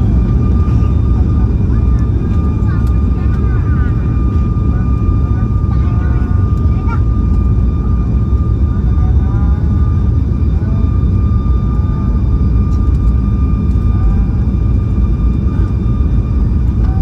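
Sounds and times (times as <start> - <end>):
jet engine rumble with whine: 0.0 - 17.0.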